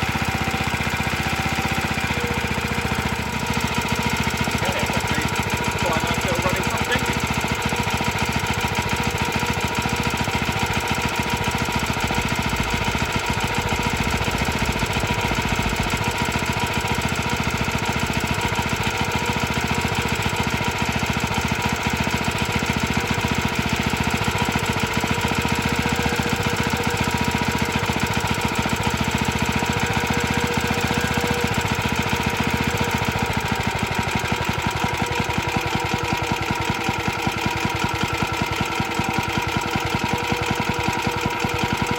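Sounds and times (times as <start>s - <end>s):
small engine running rattly: 0.0s - 41.9s.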